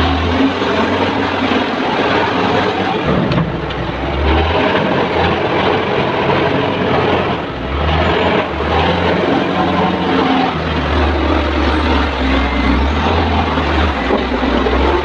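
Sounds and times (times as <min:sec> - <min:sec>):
wheel loader diesel engine: 0:00.0 - 0:15.0.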